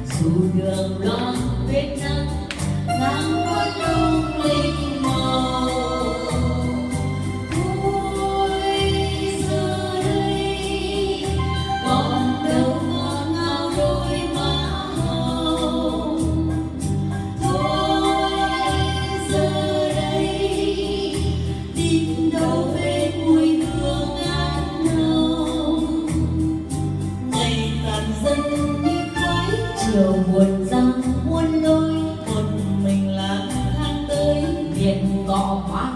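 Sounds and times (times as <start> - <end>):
two women singing: 0.0 - 35.9.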